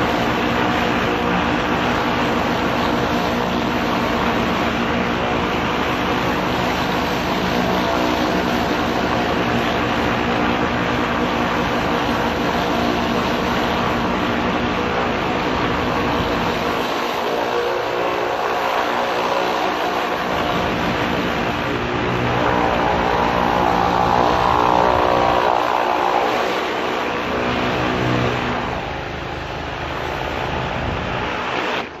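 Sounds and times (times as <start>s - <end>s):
pressure washer engine running: 0.0s - 32.0s.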